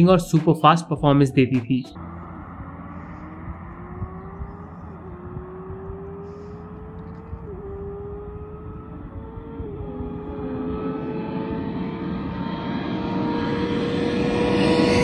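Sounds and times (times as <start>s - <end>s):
motorcycle engine accelerating: 1.9s - 15.0s.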